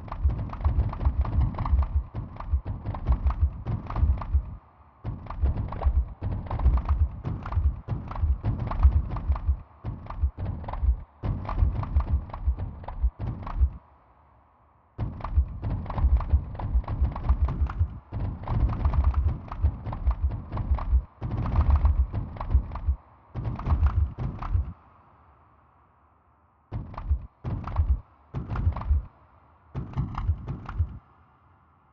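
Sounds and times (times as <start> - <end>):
deep thuds and knocks: 0.1 - 13.8, 15.0 - 24.7, 26.7 - 29.1, 29.8 - 31.0.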